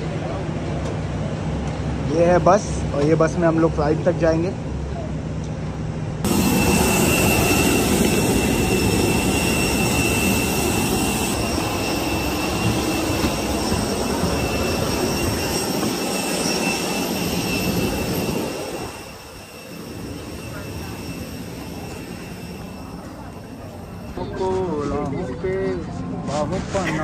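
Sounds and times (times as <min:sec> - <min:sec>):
jet engine rumble and whine: 0:00.0 - 0:27.0.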